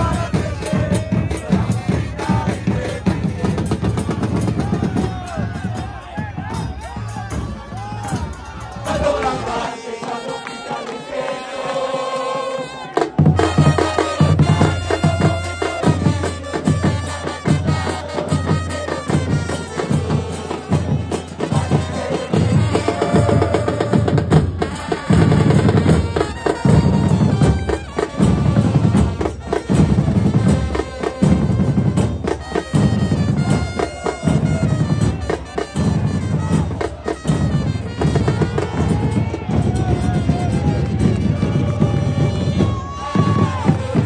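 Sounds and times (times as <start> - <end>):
bass drums beating march rhythm: 0.0 - 44.0
crowd chanting: 0.0 - 44.0
trumpets playing tune: 8.7 - 44.0.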